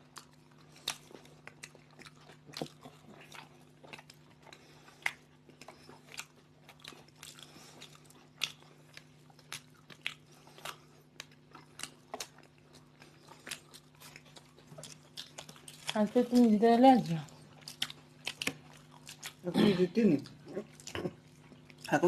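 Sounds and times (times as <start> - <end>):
crunching and chewing toast: 0.0 - 19.5, 20.1 - 22.0
faint low hum: 0.0 - 22.0.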